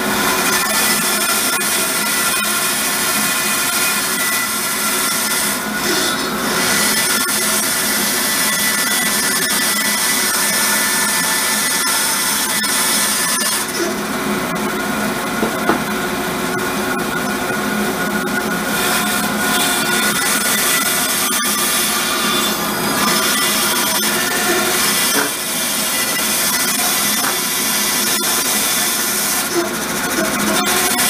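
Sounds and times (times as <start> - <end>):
bandsaw cutting wood: 0.2 - 14.0, 18.6 - 31.0.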